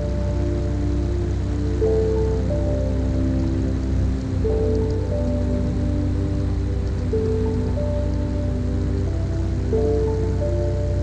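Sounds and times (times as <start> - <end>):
slow held music notes: 0.0 - 11.0.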